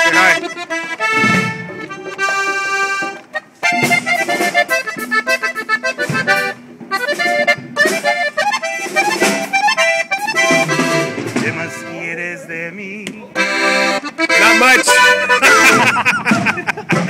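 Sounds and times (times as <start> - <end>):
accordion playing quick runs: 0.0 - 12.4, 13.4 - 17.0.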